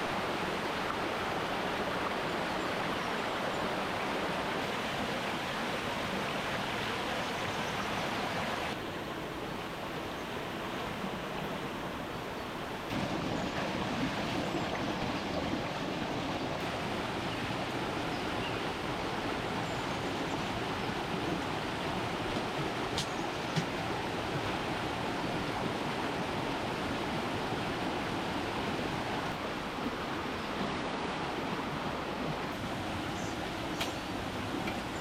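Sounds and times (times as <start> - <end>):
flowing water rushing: 0.0 - 35.0.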